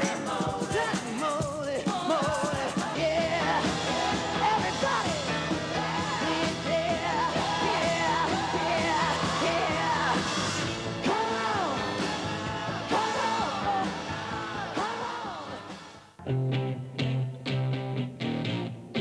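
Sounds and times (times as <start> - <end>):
rock song with lead singer: 0.0 - 15.7.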